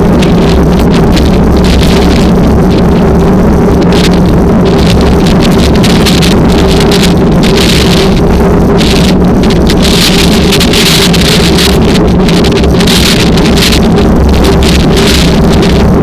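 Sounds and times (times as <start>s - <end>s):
engine drone: 0.0s - 16.0s
wind buffeting microphone: 0.0s - 16.0s.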